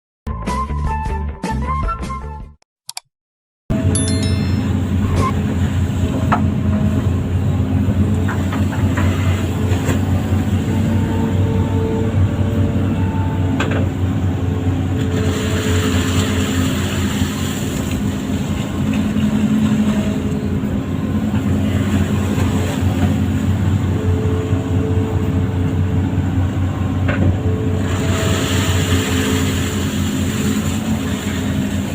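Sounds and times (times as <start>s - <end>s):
diesel engine running: 3.7s - 31.9s.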